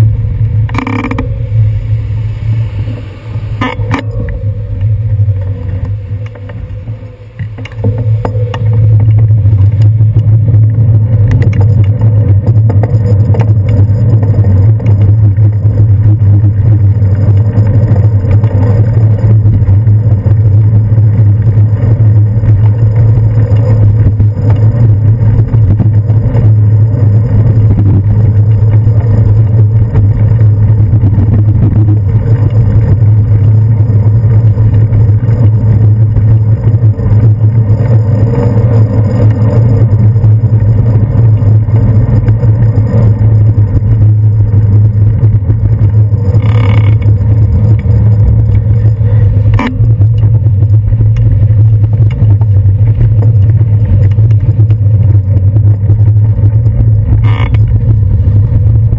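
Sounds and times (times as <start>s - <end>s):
low rumble of bicycle ride: 0.0s - 58.9s
motor traffic: 0.0s - 58.9s.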